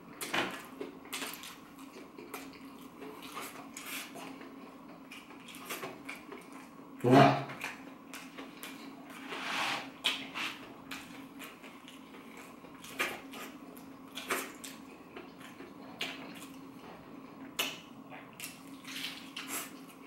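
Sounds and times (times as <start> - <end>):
crunchy chewing: 0.2 - 6.8, 7.5 - 20.0.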